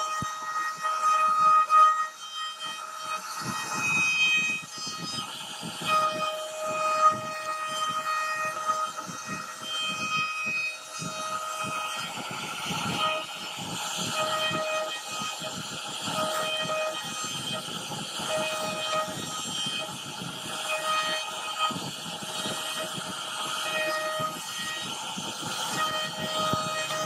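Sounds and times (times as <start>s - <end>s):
bit rasping through wood: 0.0s - 27.0s
router spindle high whine: 0.0s - 27.0s.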